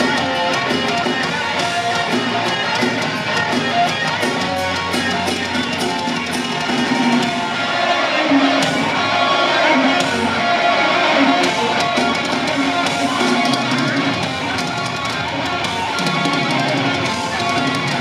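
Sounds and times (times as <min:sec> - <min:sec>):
drum kit: 0:00.0 - 0:18.0
electric guitars: 0:00.0 - 0:18.0.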